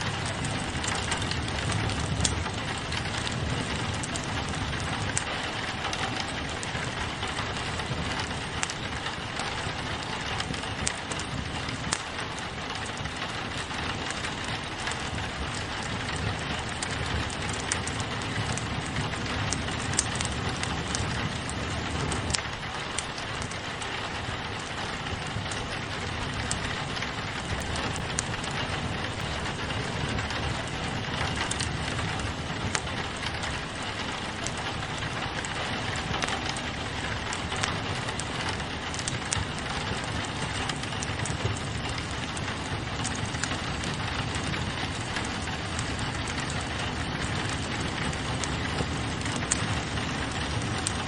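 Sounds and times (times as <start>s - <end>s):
rain on a window: 0.0s - 51.0s
wood fire crackling: 0.0s - 51.0s.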